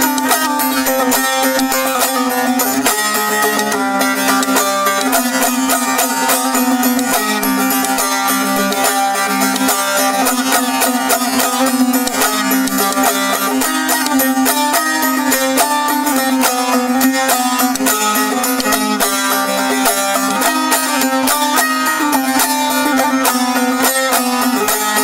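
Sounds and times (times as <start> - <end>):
plucked lute with drone: 0.0 - 25.0.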